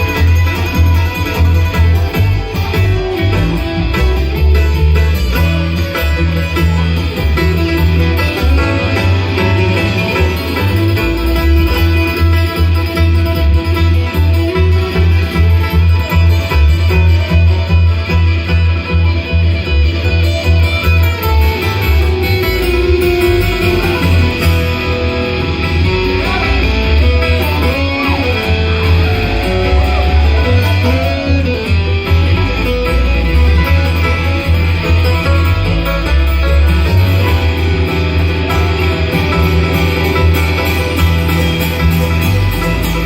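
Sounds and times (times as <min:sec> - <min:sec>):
bluegrass band playing: 0:00.0 - 0:43.0
picked guitar: 0:00.0 - 0:43.0.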